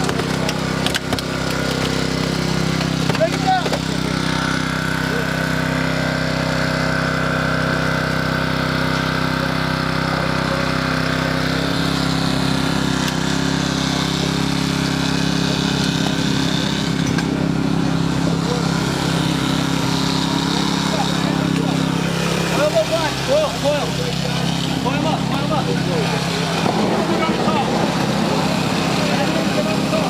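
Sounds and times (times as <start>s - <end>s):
fire engine motor running: 0.0s - 30.0s.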